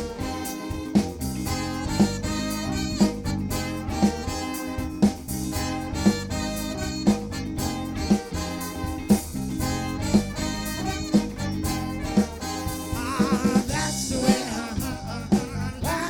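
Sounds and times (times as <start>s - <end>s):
loud drum accents: 0.0s - 16.0s
soul band playing: 0.0s - 16.0s.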